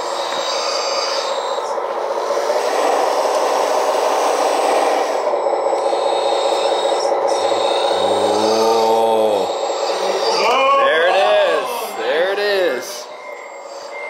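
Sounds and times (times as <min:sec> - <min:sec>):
toy wheel loader running: 0:00.0 - 0:14.0.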